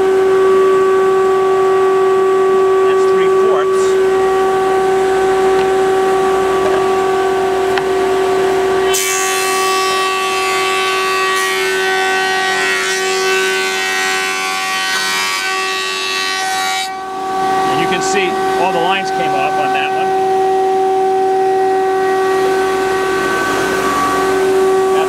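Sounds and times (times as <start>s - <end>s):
thickness planer whine: 0.0s - 25.0s.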